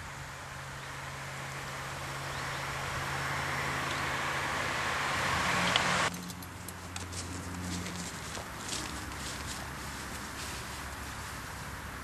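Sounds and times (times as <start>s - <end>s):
car tyre noise passing: 0.0s - 12.0s.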